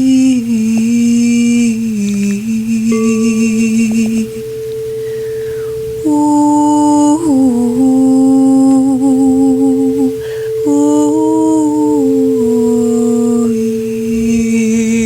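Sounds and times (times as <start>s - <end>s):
singing bowl drone: 0.0s - 15.0s
woman humming: 0.0s - 15.0s.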